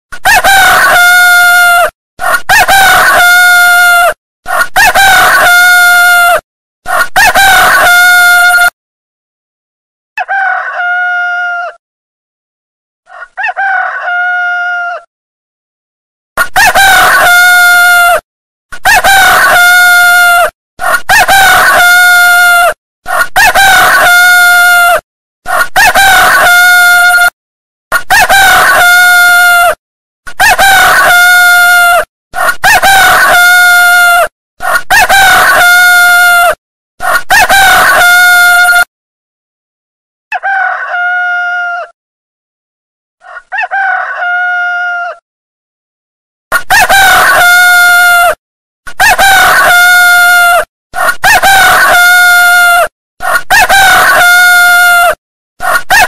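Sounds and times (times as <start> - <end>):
rooster crowing: 0.2 - 8.7, 10.2 - 11.8, 13.1 - 15.1, 16.5 - 18.2, 18.8 - 27.3, 28.1 - 29.8, 30.4 - 38.9, 40.3 - 42.0, 43.2 - 45.2, 46.5 - 48.4, 49.0 - 56.0.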